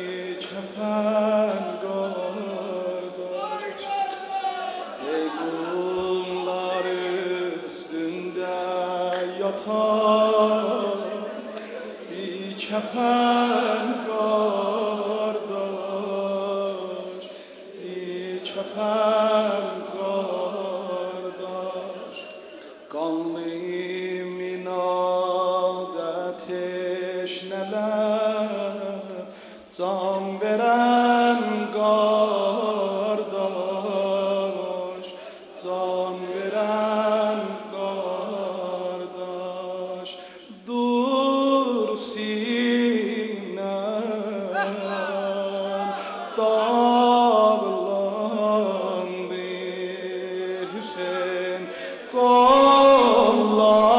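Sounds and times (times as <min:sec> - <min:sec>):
man chanting into a microphone: 0:00.0 - 0:53.9.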